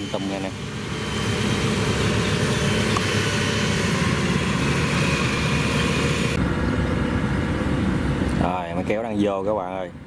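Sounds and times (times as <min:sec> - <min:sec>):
diesel engine running at high revs: 0:00.0 - 0:09.0.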